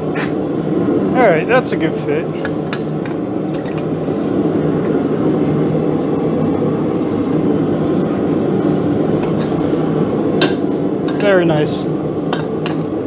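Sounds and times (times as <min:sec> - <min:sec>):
forge rushing noise: 0:00.0 - 0:13.0.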